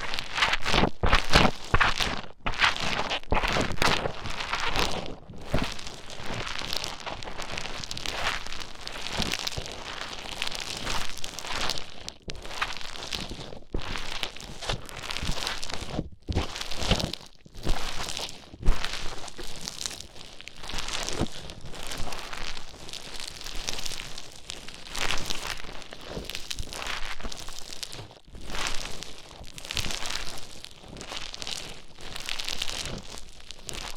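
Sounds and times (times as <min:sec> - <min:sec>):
foam beads crinkly crunching: 0:00.0 - 0:33.9.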